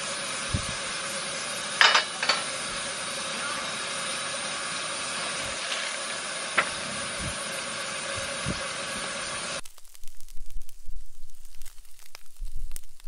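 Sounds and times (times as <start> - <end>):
steady hissing noise: 0.0 - 13.0.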